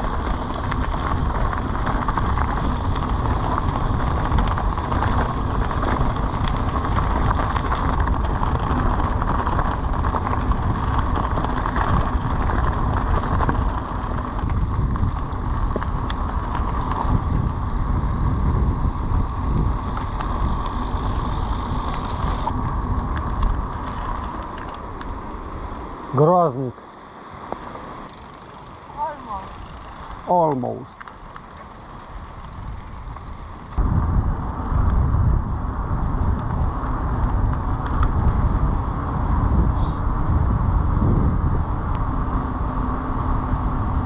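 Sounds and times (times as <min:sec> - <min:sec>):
wind on microphone: 0:00.0 - 0:25.2, 0:31.2 - 0:44.0
bicycle rolling noise: 0:00.0 - 0:44.0.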